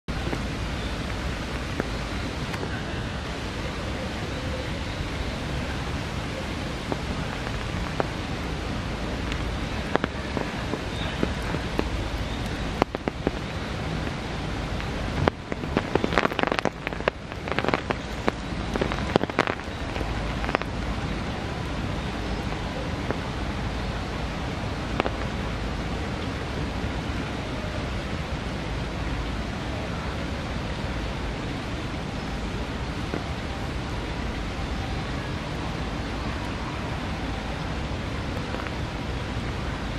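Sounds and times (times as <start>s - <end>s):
irregular rain taps: 0.1s - 39.9s
steady rain falling: 0.1s - 39.9s.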